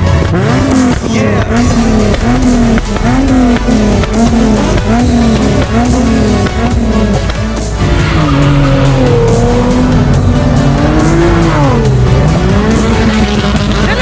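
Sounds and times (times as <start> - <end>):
car engine revving: 0.0 - 14.0
music: 0.0 - 14.0
tyres squealing: 0.3 - 14.0.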